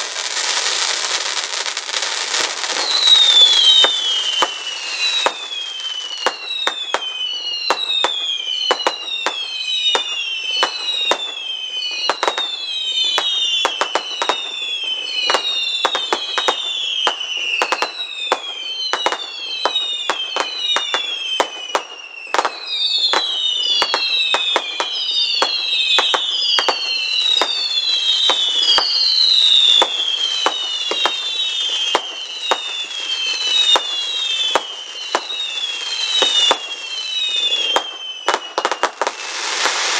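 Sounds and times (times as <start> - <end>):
firework bangs and cracks: 0.0 - 39.9
whistling fireworks: 0.0 - 39.9.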